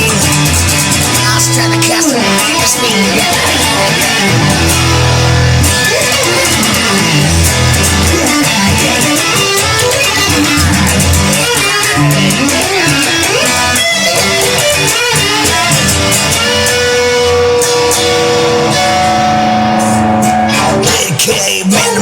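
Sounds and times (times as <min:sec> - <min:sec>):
steady beat: 0:00.0 - 0:21.5
guitar melody: 0:00.0 - 0:22.0.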